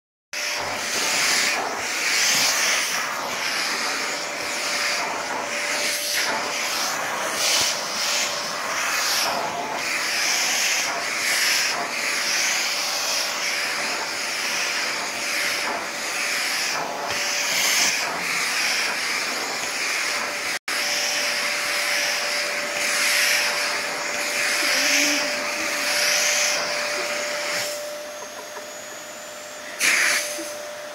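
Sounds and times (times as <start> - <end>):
vacuum cleaner running on rug: 0.4 - 30.9.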